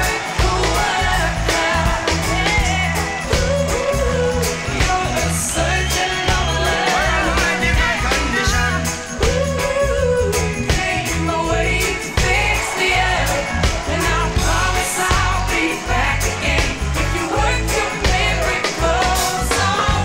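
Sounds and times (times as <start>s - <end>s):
drums keeping a beat: 0.0s - 20.0s
rock song with vocals: 0.0s - 20.0s.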